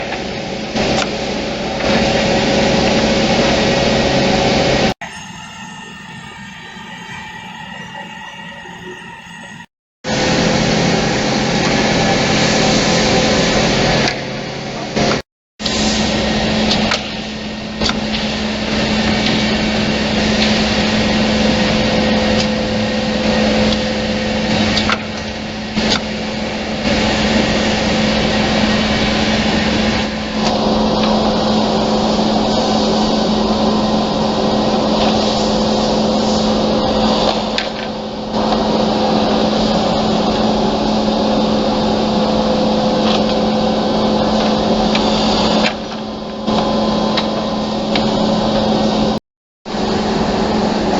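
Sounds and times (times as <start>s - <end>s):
woodworking machine running: 0.0s - 50.9s.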